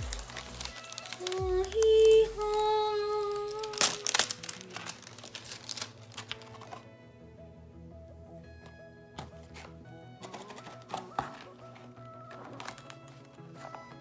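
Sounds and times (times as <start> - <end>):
plastic wrap crinkling and tearing: 0.0 - 6.9, 9.4 - 14.0
background music: 0.0 - 14.0.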